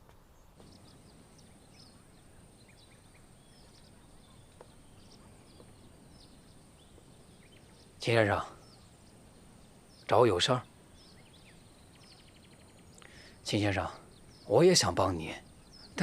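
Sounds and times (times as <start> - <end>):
steady high hiss: 0.0 - 16.0
bird chirps: 0.4 - 16.0.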